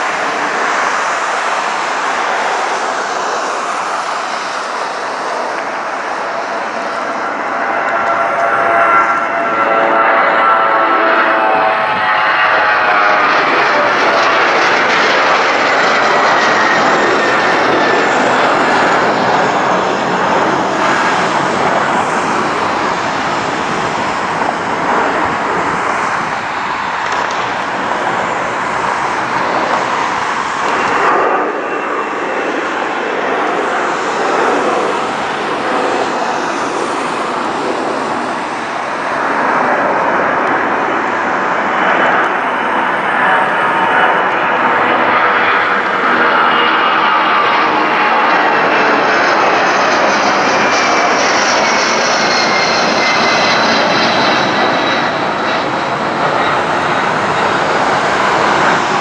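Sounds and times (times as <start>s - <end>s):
jet engine whine: 0.0s - 59.0s
jet engines roaring overhead: 0.0s - 59.0s.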